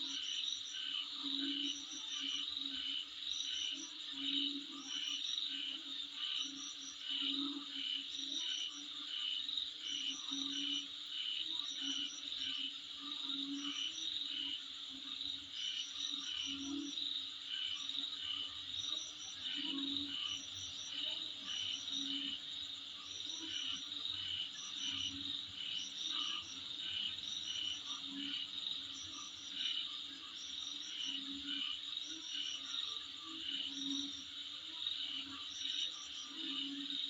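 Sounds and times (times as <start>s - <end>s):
insects chirping: 0.0s - 37.0s
low pulsing insect call: 0.0s - 37.0s.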